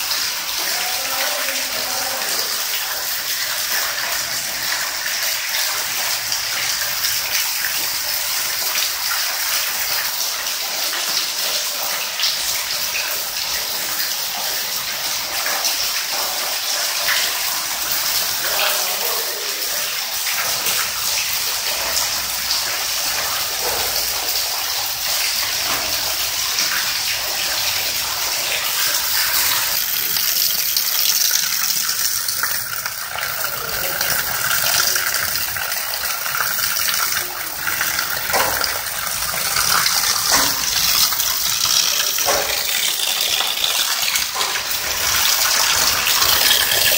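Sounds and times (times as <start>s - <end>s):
heavy rain on flooded concrete: 0.0s - 46.9s.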